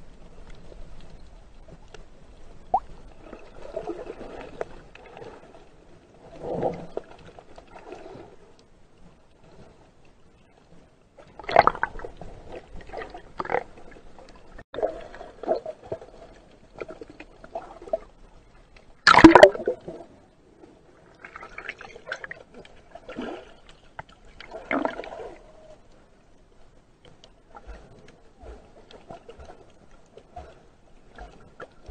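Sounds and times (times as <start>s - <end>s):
underwater bubbling and gurgling: 0.0s - 31.9s.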